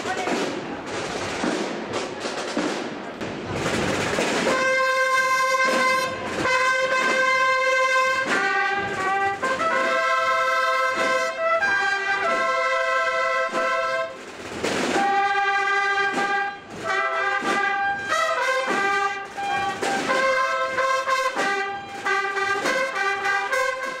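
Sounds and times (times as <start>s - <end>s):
bugle band playing: 0.0s - 24.0s
drum strokes: 0.0s - 24.0s.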